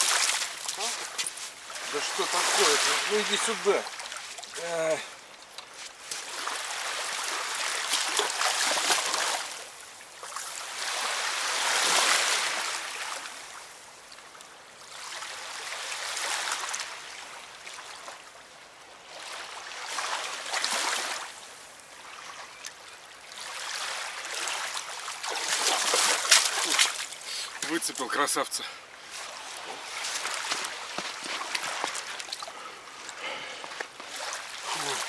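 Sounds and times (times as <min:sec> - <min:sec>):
river water washing at shore: 0:00.0 - 0:35.0.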